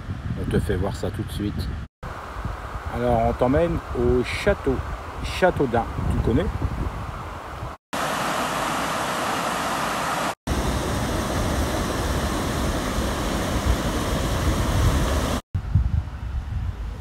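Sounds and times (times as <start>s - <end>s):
wind buffeting microphone: 0.0s - 7.8s, 10.5s - 17.0s.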